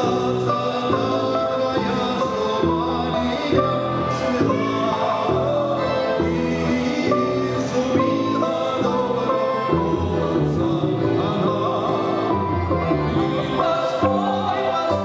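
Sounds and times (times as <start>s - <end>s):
button accordion: 0.0s - 15.0s
plucked balalaika: 0.0s - 15.0s
plucked bass line: 0.0s - 15.0s.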